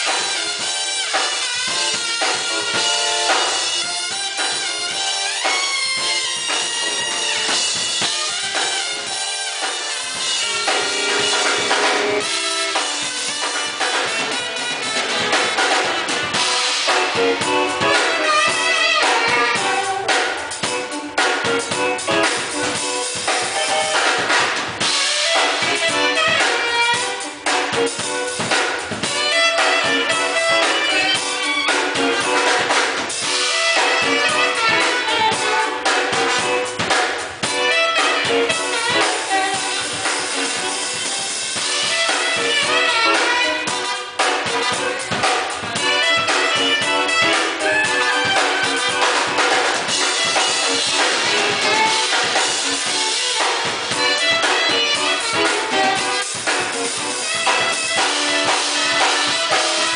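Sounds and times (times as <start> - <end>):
drum kit beat: 0.0 - 59.9
live band playing: 0.0 - 59.9
saxophone and brass: 0.0 - 59.9.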